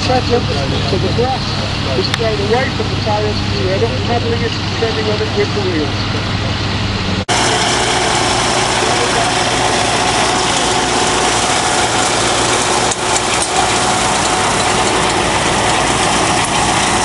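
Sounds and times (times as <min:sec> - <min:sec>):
farm machine engine running: 0:00.0 - 0:17.0.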